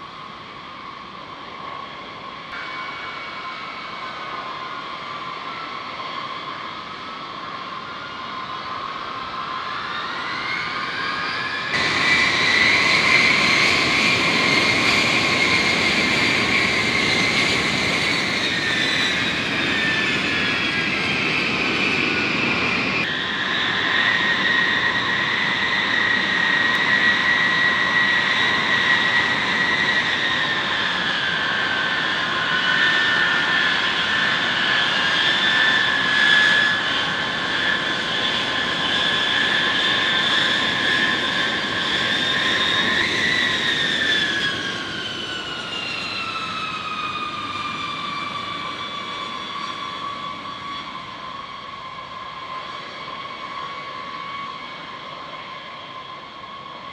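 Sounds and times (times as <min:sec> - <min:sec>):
jet engines whining: 0:00.0 - 0:56.9.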